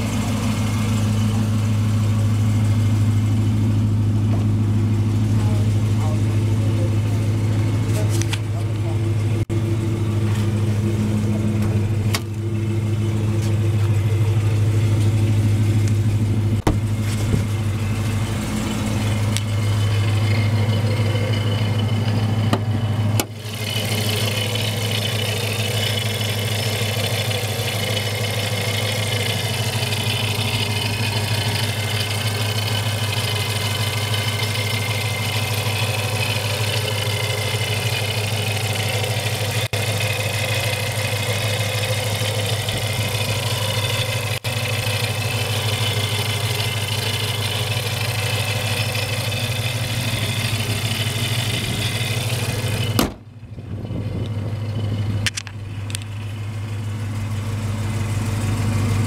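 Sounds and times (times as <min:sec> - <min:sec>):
car engine idling: 0:00.0 - 0:59.0
supercharger whine: 0:00.0 - 0:59.0.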